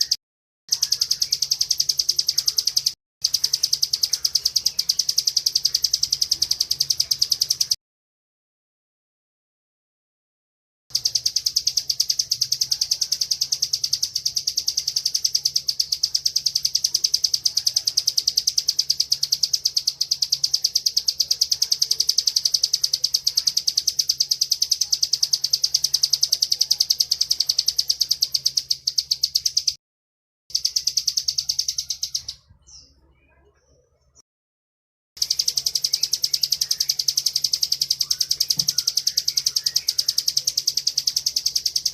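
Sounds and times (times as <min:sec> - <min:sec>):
bird singing rapid trill: 0:00.0 - 0:07.8, 0:10.9 - 0:29.8, 0:30.5 - 0:34.2, 0:35.2 - 0:41.9.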